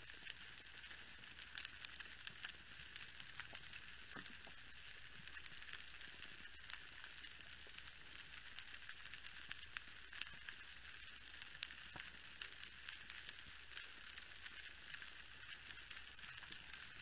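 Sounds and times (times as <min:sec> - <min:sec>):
snapping shrimp crackle underwater: 0:00.0 - 0:17.0.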